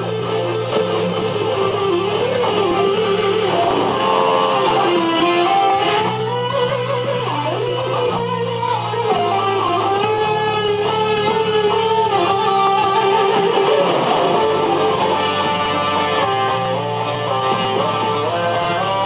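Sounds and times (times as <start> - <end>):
distorted electric guitar solo: 0.0 - 19.0
drums: 0.0 - 19.0
low bass line: 0.0 - 19.0.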